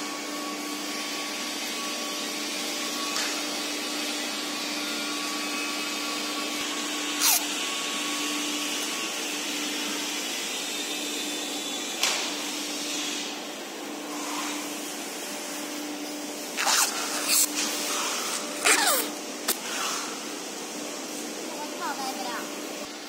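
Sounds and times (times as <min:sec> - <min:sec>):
machine hum and hiss: 0:00.0 - 0:23.0.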